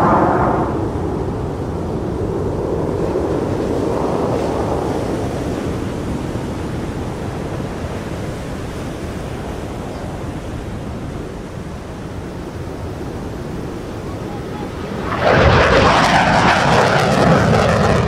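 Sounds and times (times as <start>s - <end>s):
fighter jet engines roaring: 0.0s - 18.0s.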